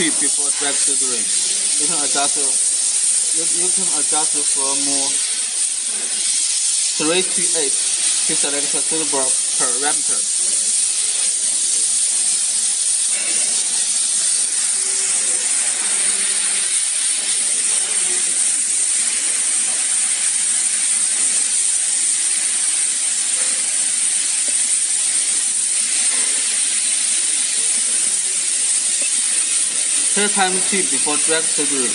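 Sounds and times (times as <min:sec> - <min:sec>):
steady high-pitched hiss: 0:00.0 - 0:31.9.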